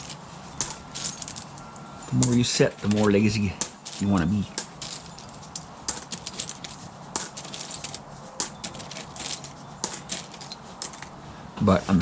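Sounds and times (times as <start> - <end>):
coins and metal clinking: 0.0 - 11.2.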